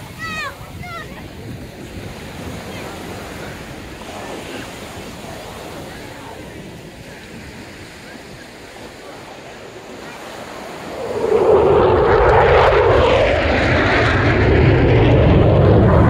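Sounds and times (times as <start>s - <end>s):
jet aircraft passing overhead: 0.0s - 16.0s
surf washing on beach: 0.0s - 16.0s.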